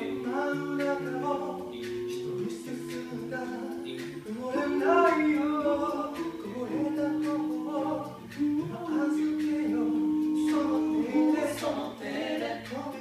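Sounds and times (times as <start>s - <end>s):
a cappella group singing: 0.0s - 13.0s
vocal percussion hits: 0.0s - 13.0s.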